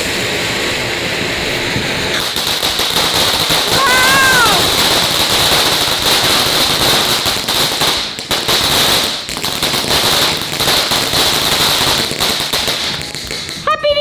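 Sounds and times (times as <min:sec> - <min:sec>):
firework hissing and crackling: 0:00.0 - 0:14.0.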